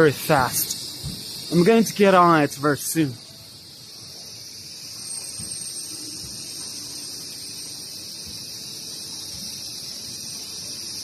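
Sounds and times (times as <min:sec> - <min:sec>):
high-pitched buzzing hiss: 0:00.0 - 0:11.0
thin whistle-like tone: 0:00.0 - 0:11.0.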